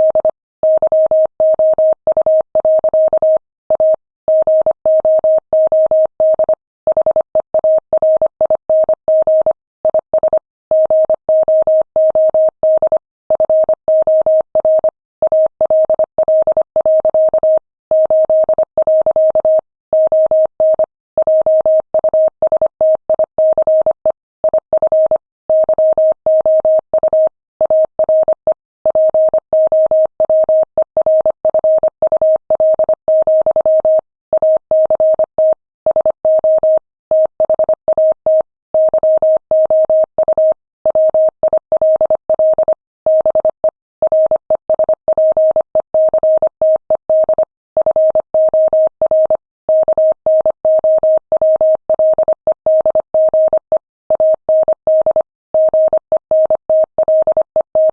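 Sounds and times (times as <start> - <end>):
morse code beeps: 0.0 - 57.9.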